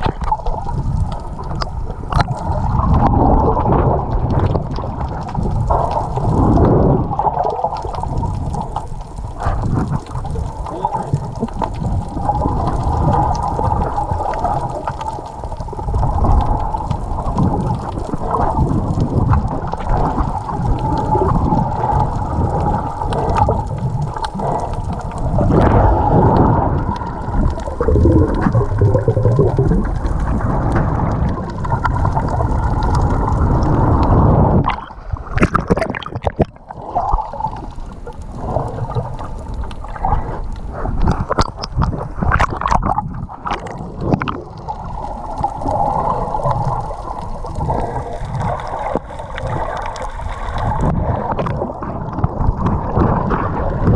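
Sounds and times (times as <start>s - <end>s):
seawater sloshing and gurgling: 0.0s - 53.9s.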